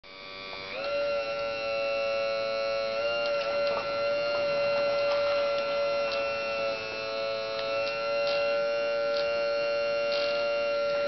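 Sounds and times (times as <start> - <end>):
model excavator motor whine: 0.0 - 11.0.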